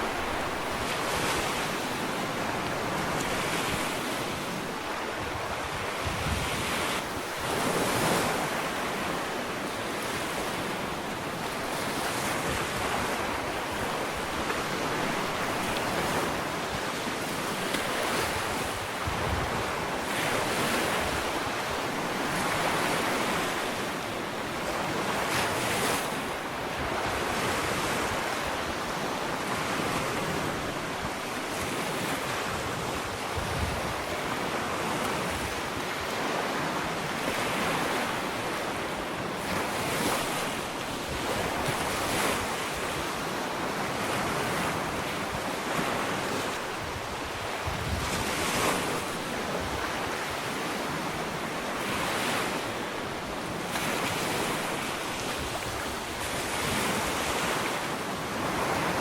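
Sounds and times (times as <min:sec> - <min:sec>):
wind on microphone: 0:00.0 - 0:23.9, 0:24.6 - 0:52.6
small waves washing onto beach: 0:00.0 - 0:59.0.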